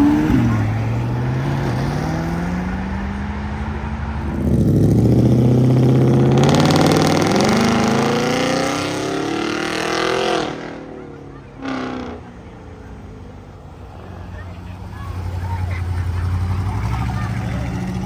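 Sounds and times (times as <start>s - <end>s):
car engines accelerating: 0.0s - 18.0s.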